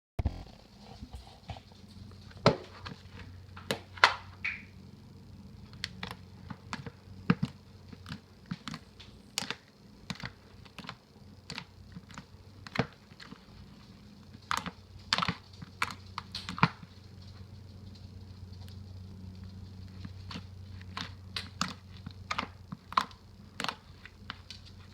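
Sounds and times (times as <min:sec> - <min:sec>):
steady low hum: 0:00.2 - 0:24.9.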